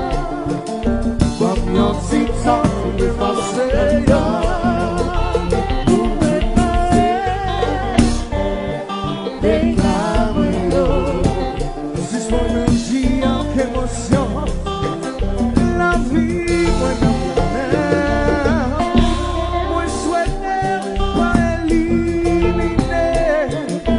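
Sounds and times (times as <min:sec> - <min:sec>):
man singing: 0:00.0 - 0:08.6, 0:09.2 - 0:23.9
live dance band playing: 0:00.0 - 0:23.9.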